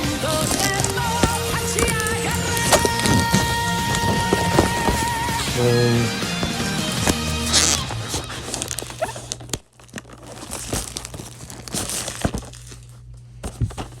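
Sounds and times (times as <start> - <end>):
packaging crinkling and tearing: 0.0 - 14.0.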